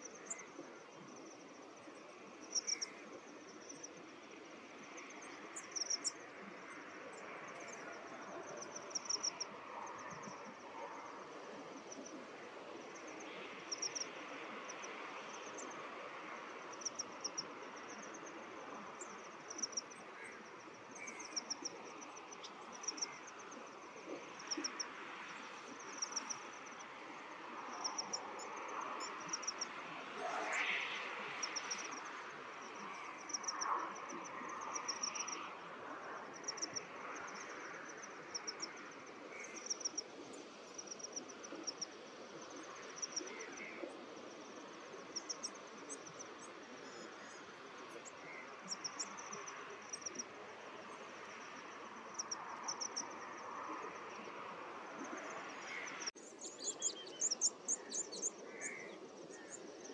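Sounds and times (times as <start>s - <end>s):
faint background hiss: 0.0s - 59.9s
insects chirping in pulsed bursts: 0.0s - 59.9s.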